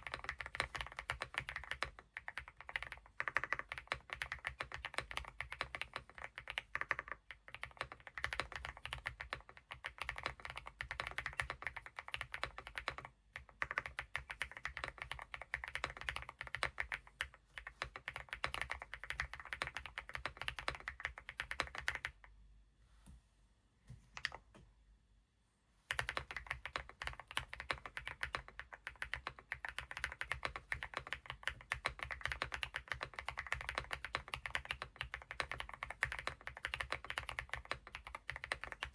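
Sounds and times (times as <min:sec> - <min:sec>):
mechanical keyboard typing: 0:00.0 - 0:22.2, 0:25.9 - 0:38.9.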